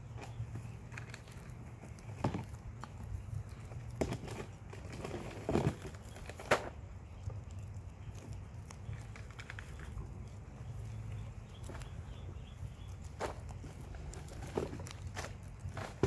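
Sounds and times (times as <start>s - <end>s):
guinea pigs chewing and crunching: 0.0s - 16.0s.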